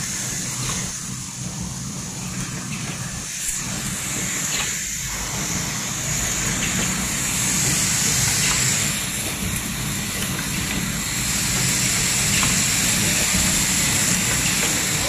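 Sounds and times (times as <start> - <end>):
nail making machine running: 0.0 - 15.0.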